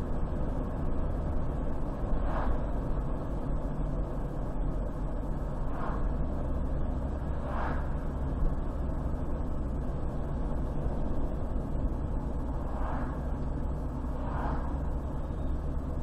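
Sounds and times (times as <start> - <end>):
car driving on highway: 0.0 - 16.0
passing vehicles whooshing: 0.0 - 16.0.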